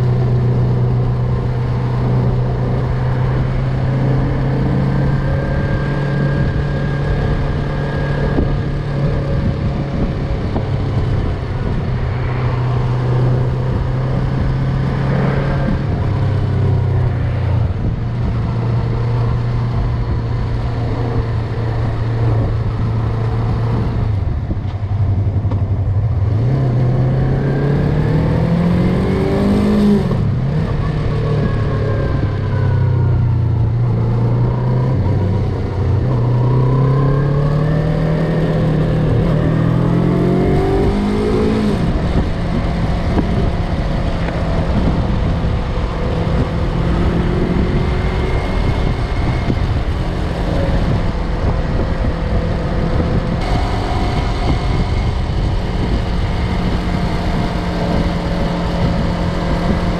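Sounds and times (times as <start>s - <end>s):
motorcycle engine revving and cruising: 0.0s - 59.9s
wind rushing: 0.0s - 59.9s.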